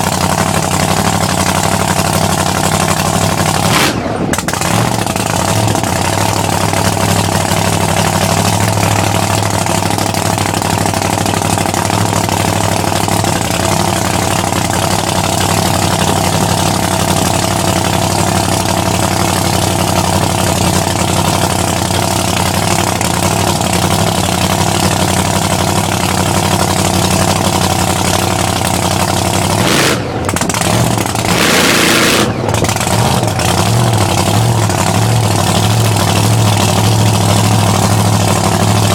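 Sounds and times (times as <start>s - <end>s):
truck engine on rev limiter: 0.0s - 38.9s.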